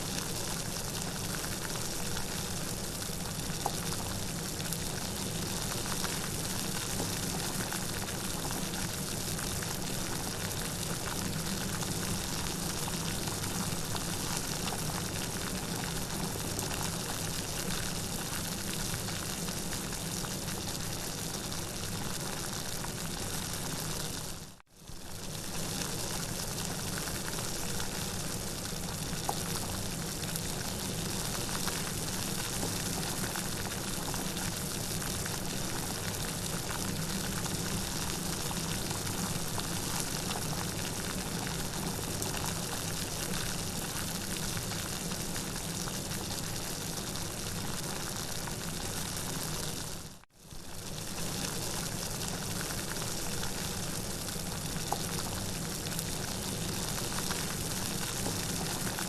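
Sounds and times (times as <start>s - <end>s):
steady rain: 0.1s - 59.0s.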